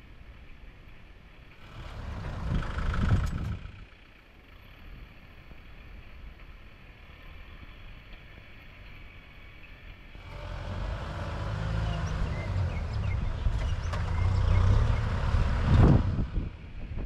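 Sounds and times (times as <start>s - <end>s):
heavy machine engine rumbling: 1.4s - 17.0s.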